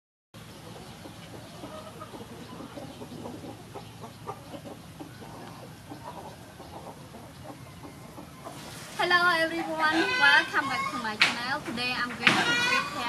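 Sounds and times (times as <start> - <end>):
chickens clucking: 0.4 - 13.0.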